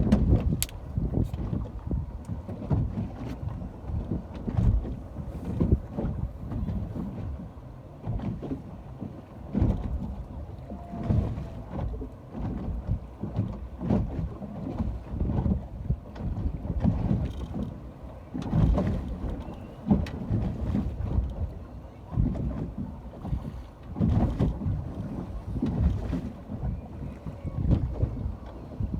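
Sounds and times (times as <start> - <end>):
wind buffeting microphone: 0.0 - 17.7, 18.4 - 28.9.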